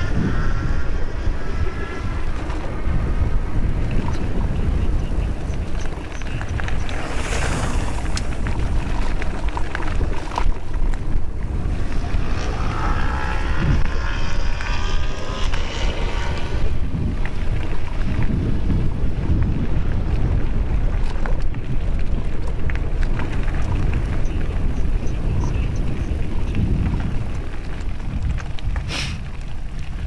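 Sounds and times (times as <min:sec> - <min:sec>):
bike tyres rolling over gravel: 0:00.0 - 0:30.0
wind buffeting microphone: 0:00.0 - 0:30.0.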